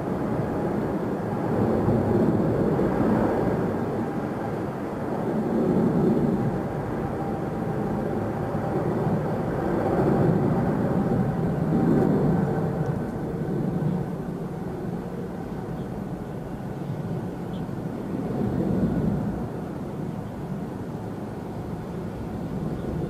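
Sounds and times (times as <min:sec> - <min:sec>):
distant jet engines rumbling: 0:00.0 - 0:23.0.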